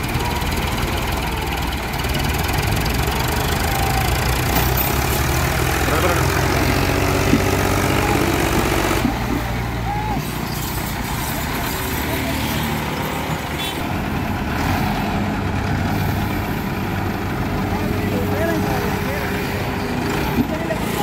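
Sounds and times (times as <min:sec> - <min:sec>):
tractor engines under load: 0:00.0 - 0:21.0.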